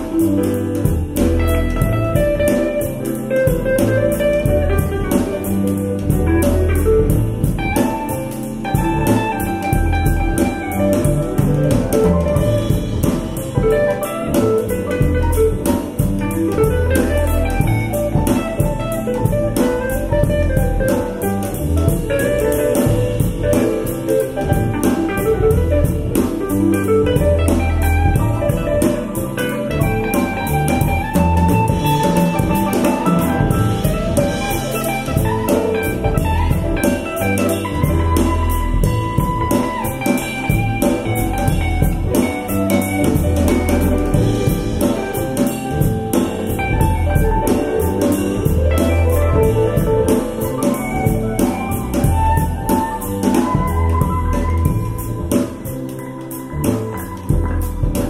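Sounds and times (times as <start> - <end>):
guitar and drum kit music: 0.0 - 58.0.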